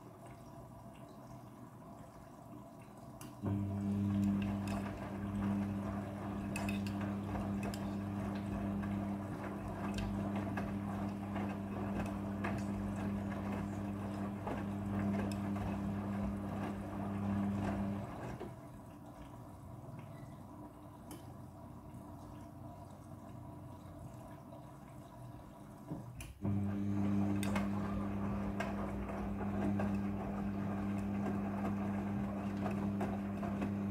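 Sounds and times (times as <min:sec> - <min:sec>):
washing machine electric hum: 0:00.0 - 0:33.9.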